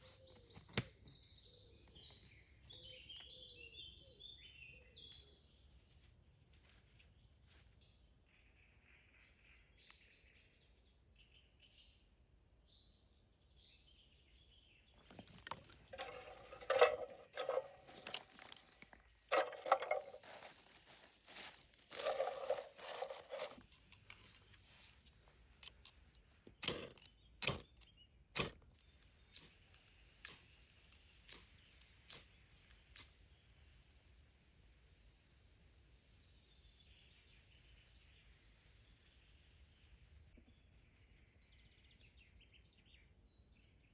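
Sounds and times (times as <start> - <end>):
faint birdsong: 0.0 - 43.9.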